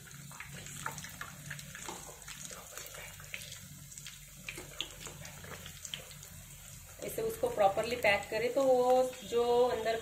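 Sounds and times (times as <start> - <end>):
oil sizzling and popping: 0.0 - 10.0.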